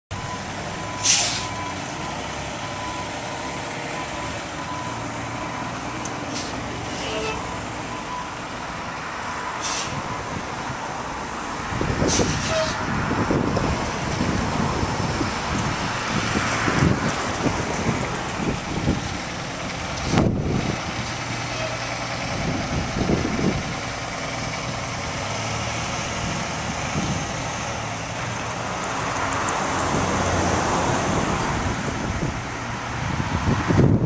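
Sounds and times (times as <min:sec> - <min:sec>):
bus diesel engine running: 0:00.1 - 0:34.0.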